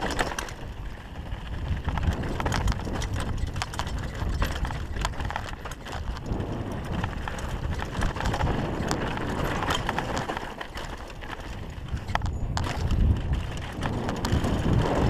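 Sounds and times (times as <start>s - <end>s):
bike rattling: 0.0s - 15.0s
bike tyres on dirt and gravel: 0.0s - 15.0s.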